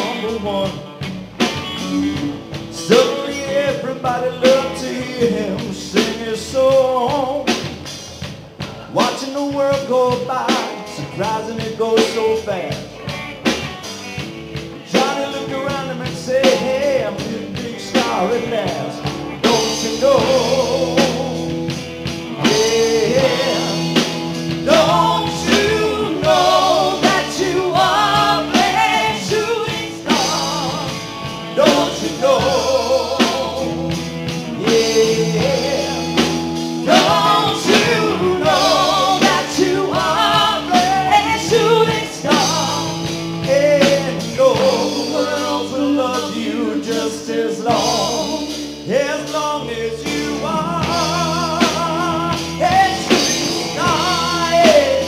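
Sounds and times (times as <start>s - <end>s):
drums: 0.0s - 55.0s
electric guitars: 0.0s - 55.0s
rock band playing: 0.0s - 55.0s
person singing: 1.6s - 7.6s, 14.9s - 21.6s, 22.3s - 55.0s.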